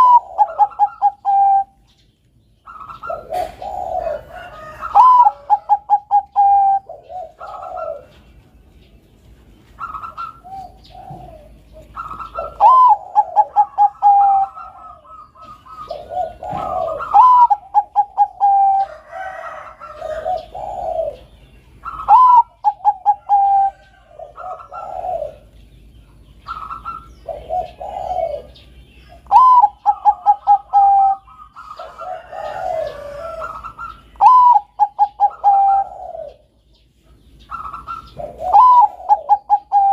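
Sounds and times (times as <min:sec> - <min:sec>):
dove cooing: 0:00.0 - 0:02.0, 0:02.6 - 0:39.9.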